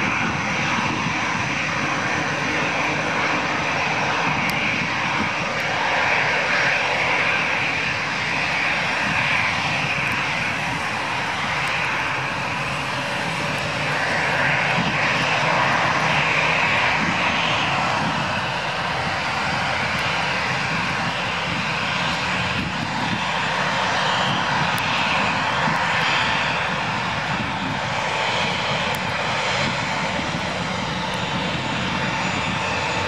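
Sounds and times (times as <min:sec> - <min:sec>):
jet engines at taxi thrust: 0:00.0 - 0:33.0.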